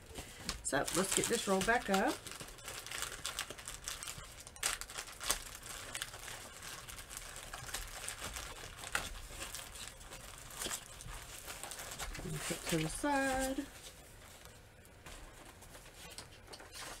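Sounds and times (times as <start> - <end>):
canvas crinkling and rustling: 0.0 - 17.0.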